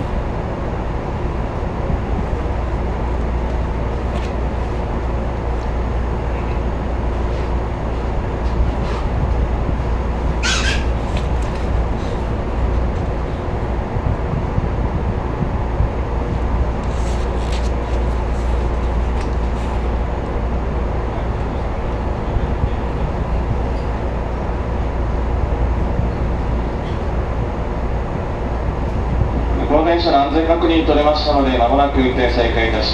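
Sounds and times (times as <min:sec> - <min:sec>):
train equipment humming: 0:00.0 - 0:32.9.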